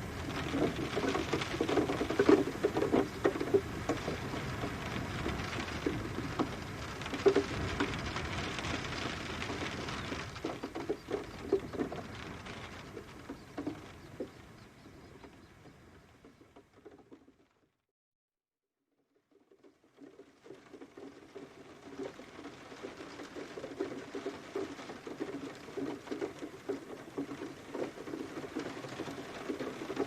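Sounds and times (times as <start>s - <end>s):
rain falling: 0.0s - 17.4s, 19.5s - 30.0s.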